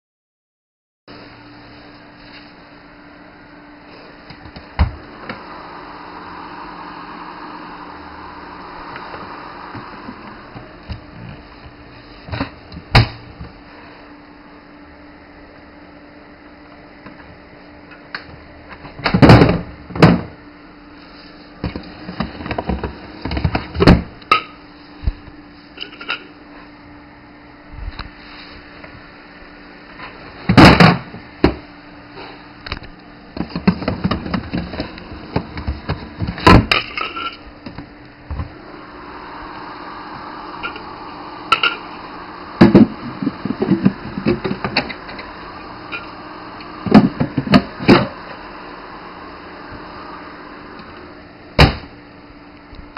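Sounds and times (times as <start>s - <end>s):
cooling fan humming: 1.1s - 52.9s.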